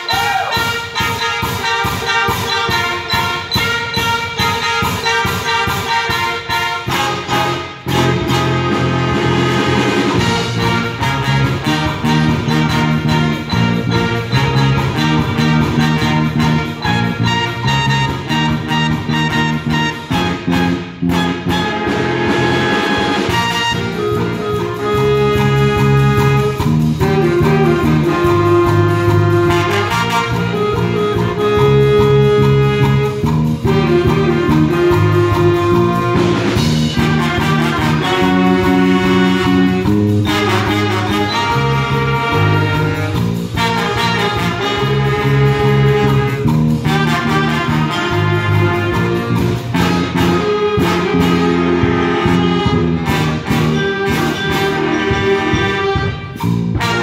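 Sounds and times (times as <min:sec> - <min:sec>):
jazz big band playing: 0:00.0 - 0:57.0
lead trumpet: 0:00.0 - 0:57.0.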